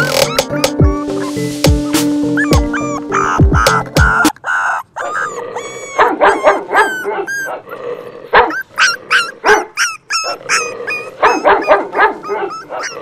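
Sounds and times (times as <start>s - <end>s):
puppy yelping: 0.0s - 13.0s.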